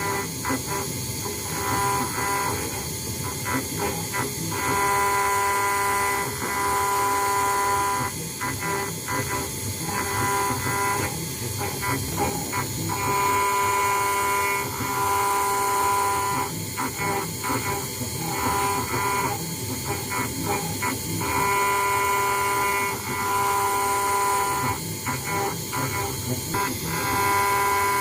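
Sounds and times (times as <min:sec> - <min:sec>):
engraving router whining: 0:00.0 - 0:28.0.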